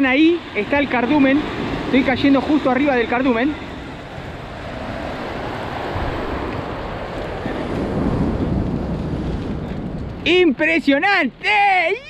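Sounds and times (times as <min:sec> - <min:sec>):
heavy rain: 0:00.0 - 0:10.2
surf breaking over rocks: 0:00.0 - 0:12.0
wind rumbling on microphone: 0:00.0 - 0:12.0.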